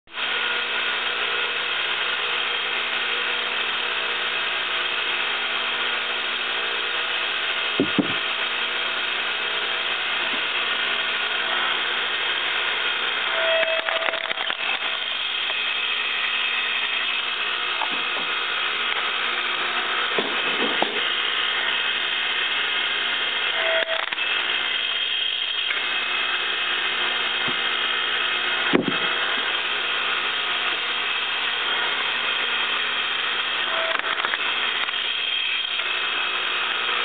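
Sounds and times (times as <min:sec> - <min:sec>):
log splitter motor humming: 0:00.1 - 0:37.0.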